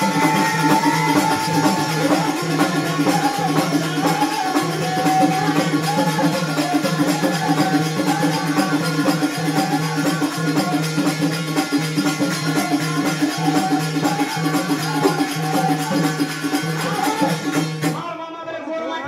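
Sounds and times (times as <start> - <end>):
hand drum beat: 0.0 - 18.0.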